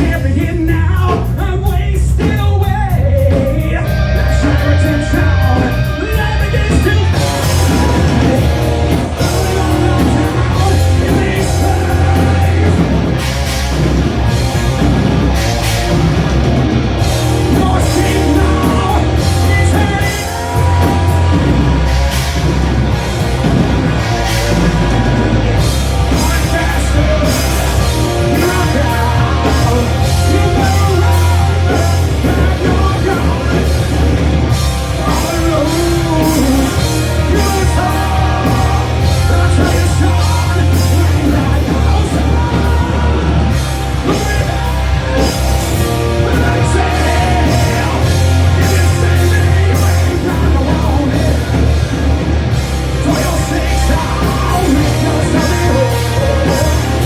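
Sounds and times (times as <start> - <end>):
person singing: 0.0 - 13.5, 17.2 - 22.6, 23.5 - 51.9, 52.9 - 57.0
drums: 0.0 - 57.0
live rock band playing: 0.0 - 57.0.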